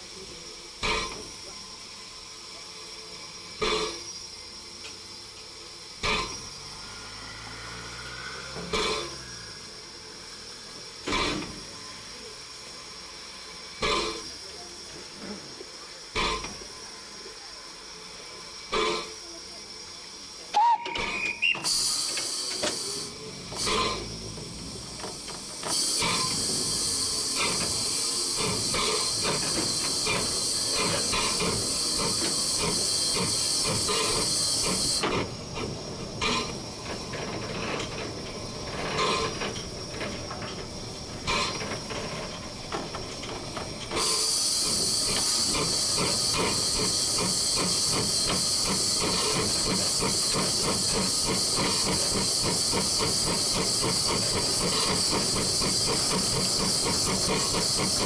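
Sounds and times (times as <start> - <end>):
steam hissing: 0.0 - 58.0.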